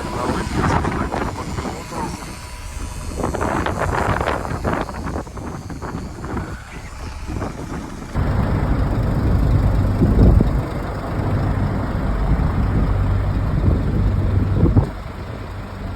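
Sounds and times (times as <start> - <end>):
diesel truck engine rumbling: 0.0 - 15.9.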